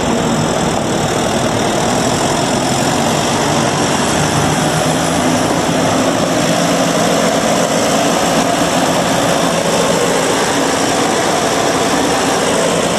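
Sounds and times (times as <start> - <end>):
tractor engine running: 0.0 - 12.9.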